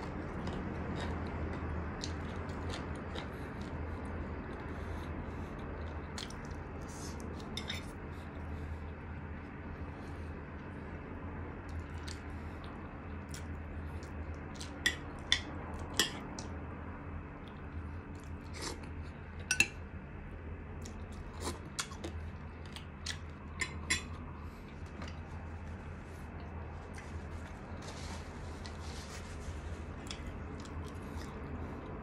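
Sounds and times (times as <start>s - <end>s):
person chewing food: 0.0s - 20.0s, 20.8s - 32.0s
low steady hum: 0.0s - 32.0s.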